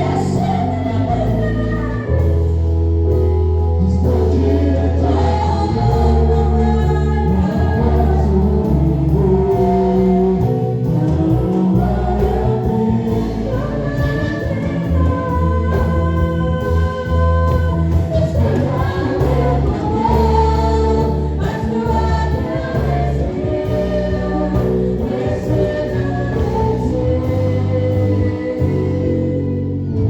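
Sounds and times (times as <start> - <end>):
voices singing together: 0.0 - 2.3, 3.8 - 30.0
band accompaniment: 0.0 - 30.0.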